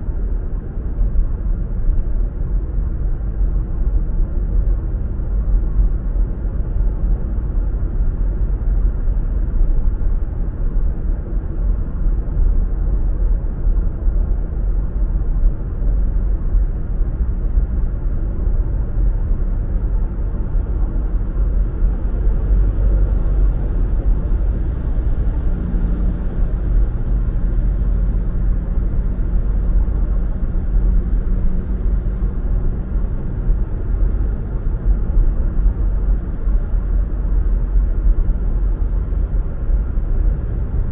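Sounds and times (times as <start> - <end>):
car road and engine rumble: 0.0 - 40.9
low hum: 0.0 - 40.9.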